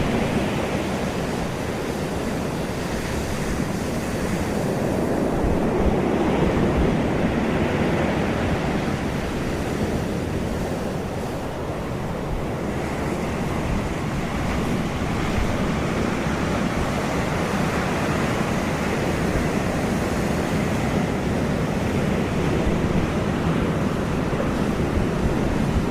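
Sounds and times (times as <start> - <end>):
ocean waves breaking: 0.0 - 25.9.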